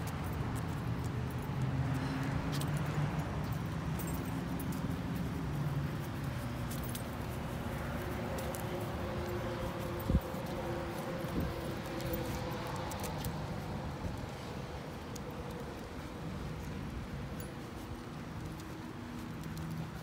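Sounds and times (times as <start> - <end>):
light metallic jingles and clicks: 0.0 - 20.0.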